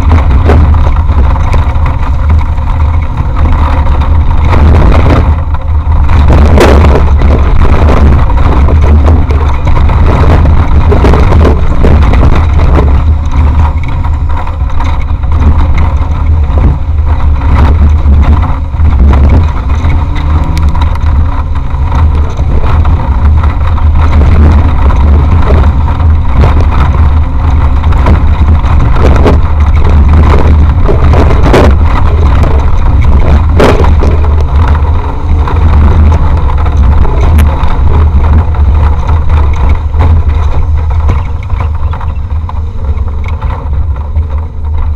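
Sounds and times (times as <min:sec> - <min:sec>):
vehicle engine rumbling under load: 0:00.0 - 0:44.9
vehicle knocks and rattles: 0:00.0 - 0:44.9.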